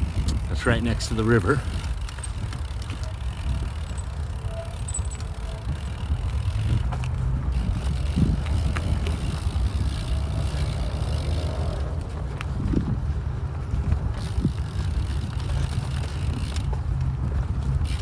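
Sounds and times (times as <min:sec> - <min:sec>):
bicycle tyres rumbling on dirt: 0:00.0 - 0:18.0
faint rattles and knocks: 0:00.0 - 0:18.0
wind on microphone: 0:00.0 - 0:18.0.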